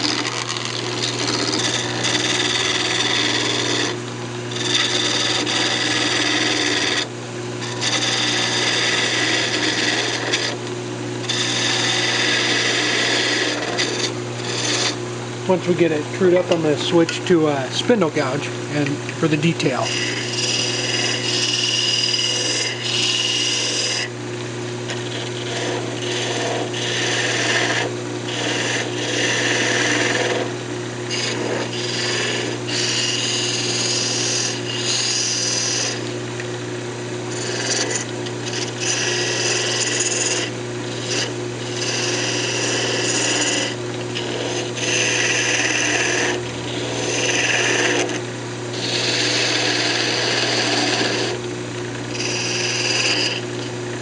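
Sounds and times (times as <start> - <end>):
gouge scraping wood: 0.0 - 10.6, 11.2 - 24.1, 24.9 - 36.2, 37.3 - 51.4, 52.1 - 53.4
lathe motor humming: 0.0 - 54.0.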